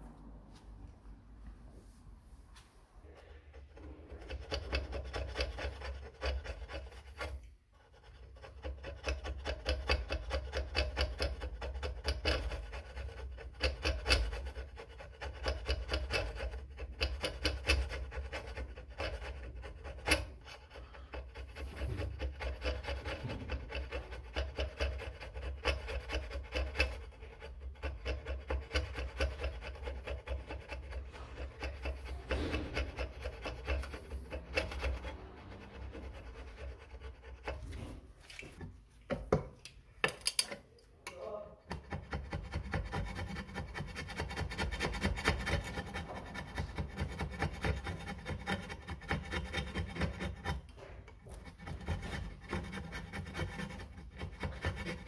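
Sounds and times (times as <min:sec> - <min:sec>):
metal scraper scraping gasket: 0:03.0 - 0:38.8, 0:41.6 - 0:55.0.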